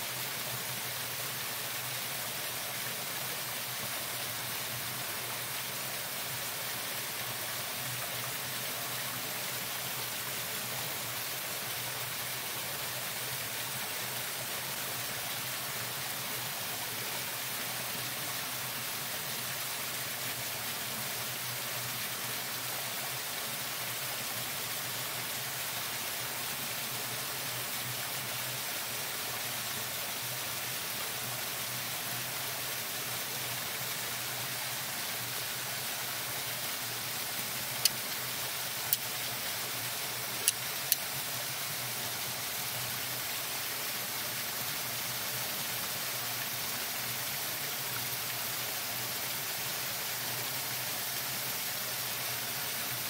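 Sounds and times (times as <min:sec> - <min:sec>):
steady rush of flowing water: 0:00.0 - 0:53.0.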